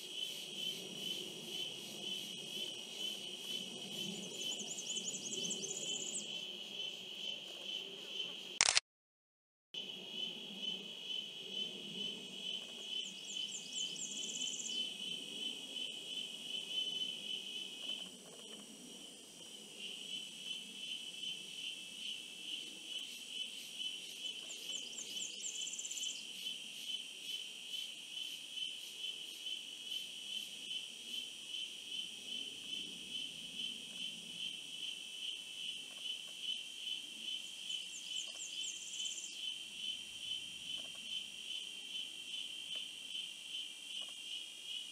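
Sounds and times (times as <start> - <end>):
insect chorus buzzing trill: 0.0 - 8.5, 9.8 - 44.9.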